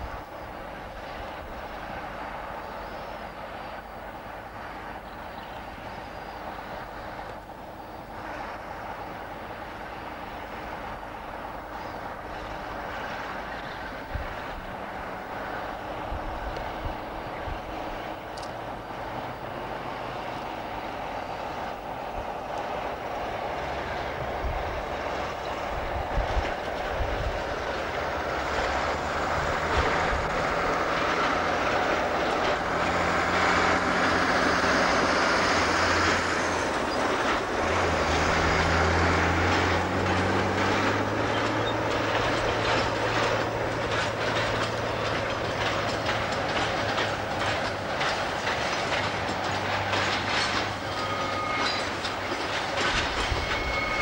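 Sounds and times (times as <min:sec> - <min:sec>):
diesel locomotive engine under load: 0:00.0 - 0:54.0
wheels clattering over rail joints: 0:00.0 - 0:54.0.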